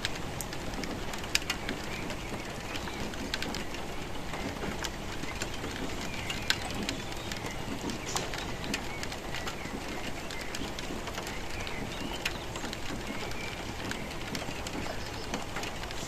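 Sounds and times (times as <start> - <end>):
steady rain: 0.0 - 16.0
birds calling: 1.3 - 16.0.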